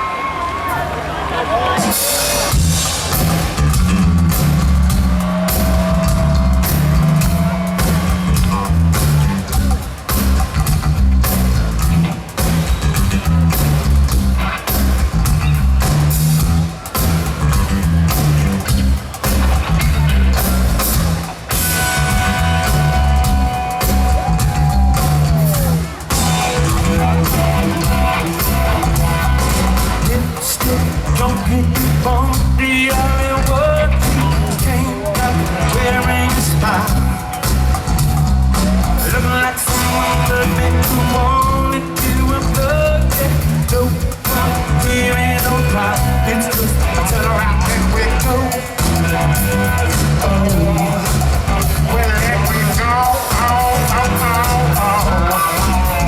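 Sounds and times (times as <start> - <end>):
drum kit hits: 1.8 - 56.0
electric bass line: 2.5 - 56.0.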